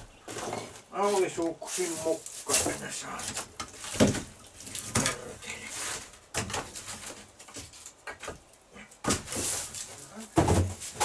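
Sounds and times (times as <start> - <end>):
firewood knocking and clattering: 2.0 - 11.0.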